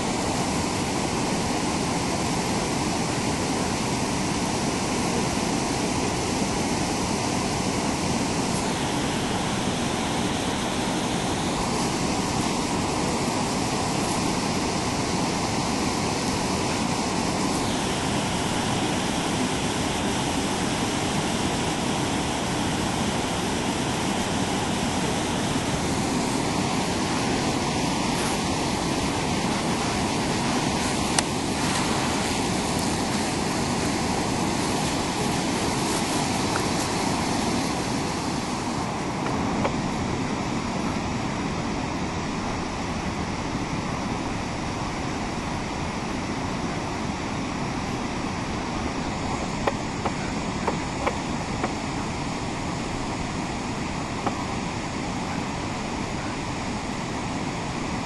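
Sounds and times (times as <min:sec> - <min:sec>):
river rapids rushing: 0:00.0 - 0:58.0.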